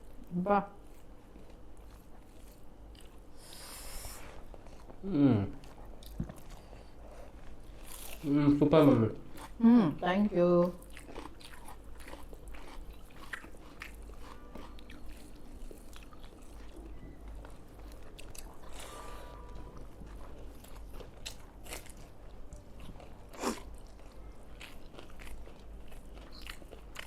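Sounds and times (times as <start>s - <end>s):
people chewing food: 0.0s - 27.0s.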